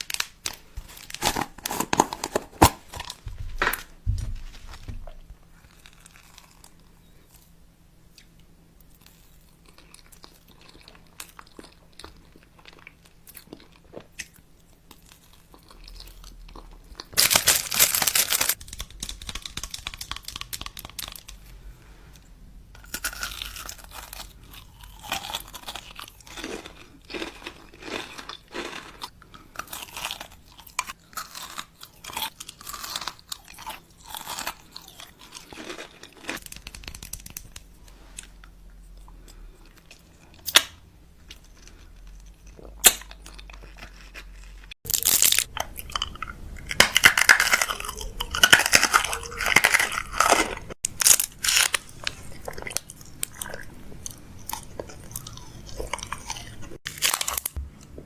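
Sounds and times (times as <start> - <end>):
crunching and chewing: 0.0 - 57.6.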